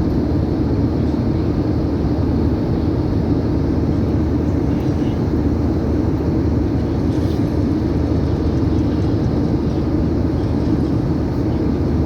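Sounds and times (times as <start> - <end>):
airplane engines rumbling: 0.0 - 12.0.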